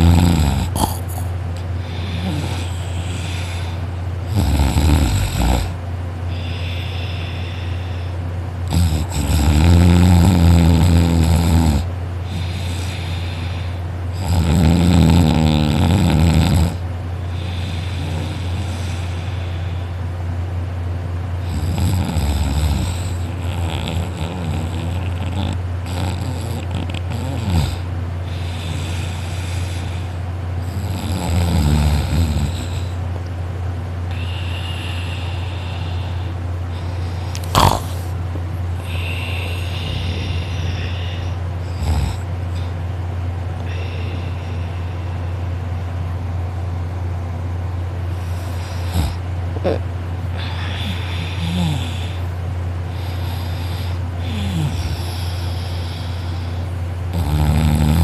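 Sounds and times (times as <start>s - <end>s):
person snoring: 0.0s - 20.0s, 21.4s - 33.0s, 34.1s - 38.2s, 38.8s - 42.7s, 43.6s - 45.0s, 48.1s - 58.0s
steady low hum: 0.0s - 58.0s.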